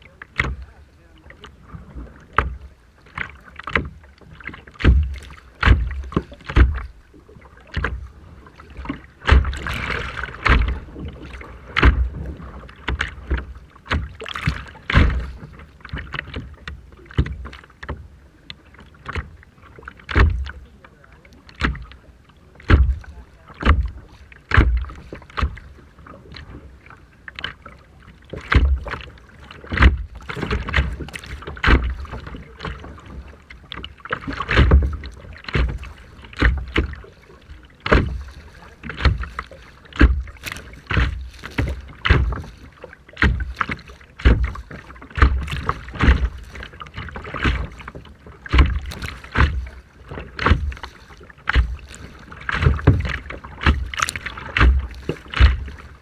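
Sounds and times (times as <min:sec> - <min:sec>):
paddle strokes splashing: 0:00.0 - 0:56.0.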